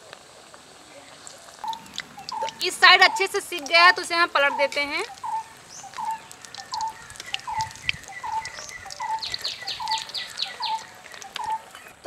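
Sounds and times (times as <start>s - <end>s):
food frying in hot oil: 0.0s - 12.0s
high falling chirps: 1.6s - 11.8s.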